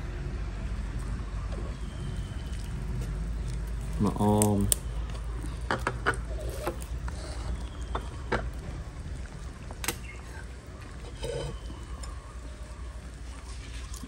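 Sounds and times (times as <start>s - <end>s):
soup bubbling in a clay pot: 0.2s - 14.0s.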